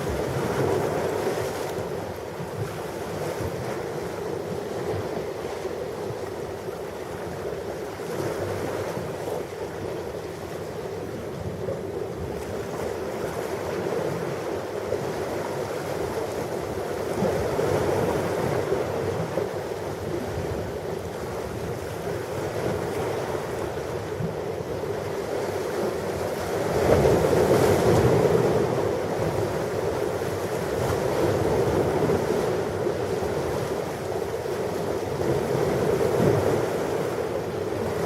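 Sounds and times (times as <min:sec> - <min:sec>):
ocean surf washing on shore: 0:00.0 - 0:38.0.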